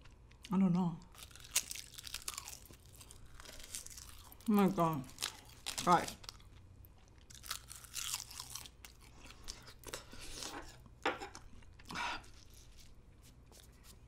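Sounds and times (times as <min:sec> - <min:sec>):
crunchy chewing: 0:01.1 - 0:13.9.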